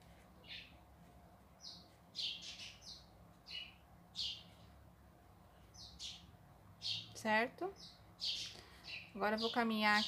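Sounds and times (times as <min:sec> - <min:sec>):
bird chirping: 0:00.4 - 0:00.8, 0:01.6 - 0:04.8, 0:05.6 - 0:10.0.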